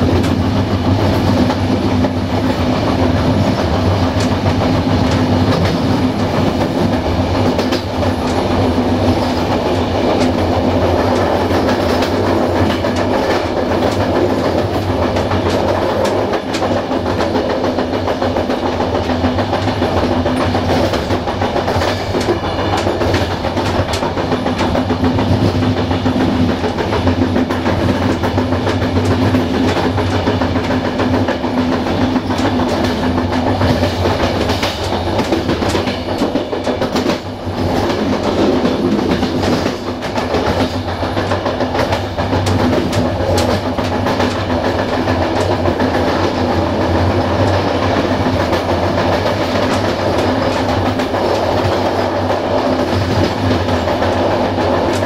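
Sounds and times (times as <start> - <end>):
train wheels rumbling on rail: 0.0 - 55.0
clicks over rail joints: 0.1 - 55.0.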